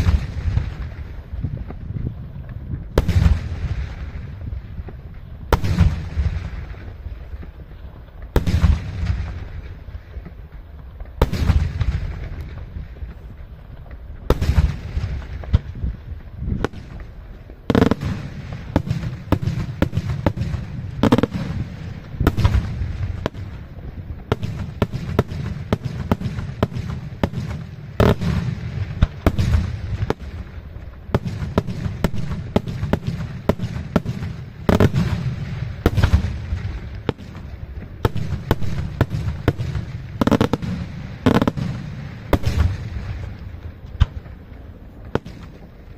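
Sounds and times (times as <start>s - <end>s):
fireworks bangs and cracks: 0.0s - 45.9s
heavy fireworks boom: 0.0s - 45.9s.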